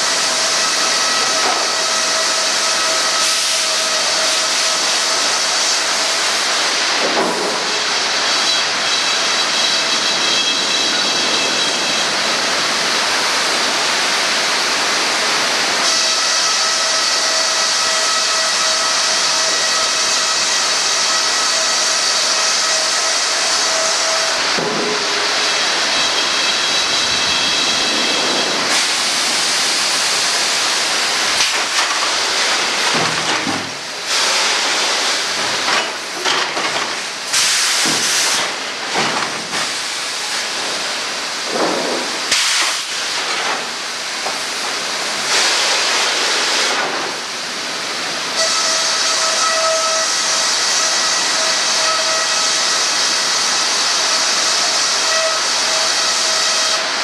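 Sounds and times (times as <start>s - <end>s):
sawmill machinery hiss and whine: 0.0s - 57.0s.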